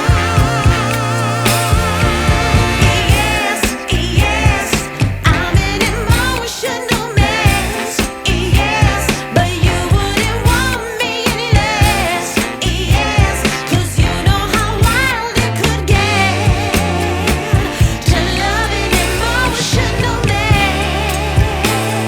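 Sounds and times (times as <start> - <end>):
pop song with vocals and beat: 0.0 - 22.0.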